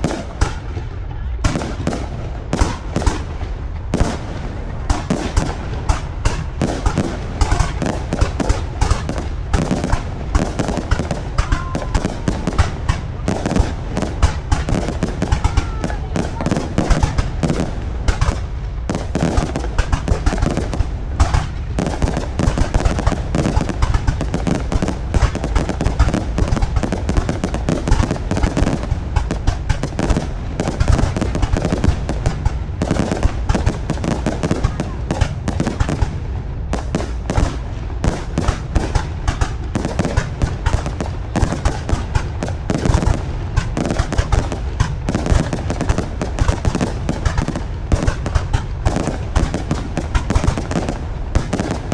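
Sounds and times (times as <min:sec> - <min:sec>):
fireworks exploding: 0:00.0 - 0:51.9.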